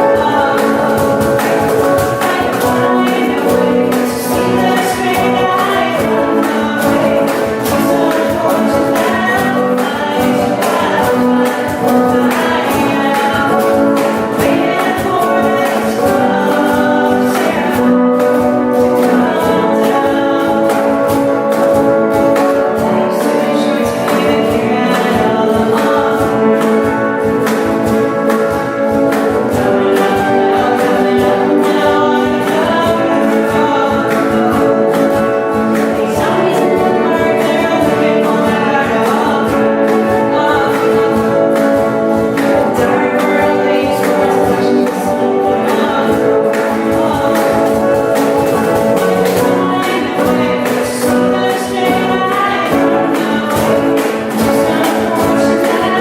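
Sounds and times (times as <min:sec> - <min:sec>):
group singing a pop song: 0:00.0 - 0:56.0
instrumental backing with beat: 0:00.0 - 0:56.0.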